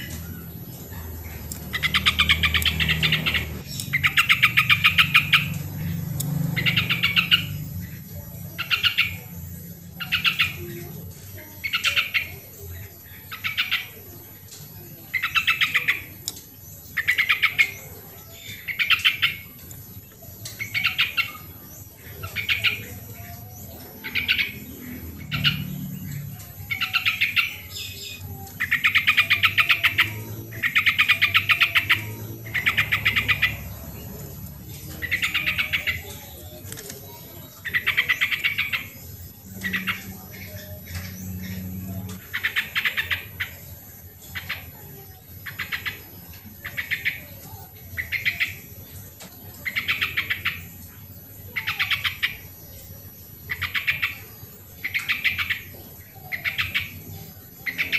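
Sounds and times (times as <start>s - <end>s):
bulbul singing: 0.0s - 57.9s.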